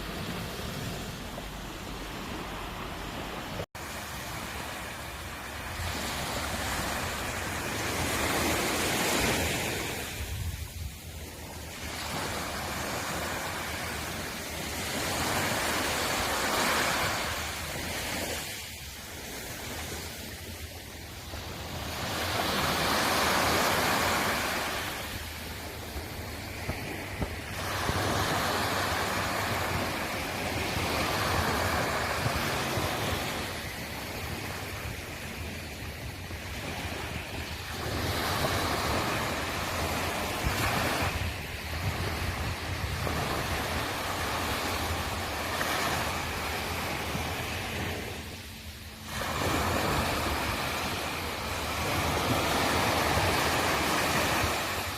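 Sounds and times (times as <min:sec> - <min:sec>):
sea waves breaking on shore: 0:00.0 - 0:54.9.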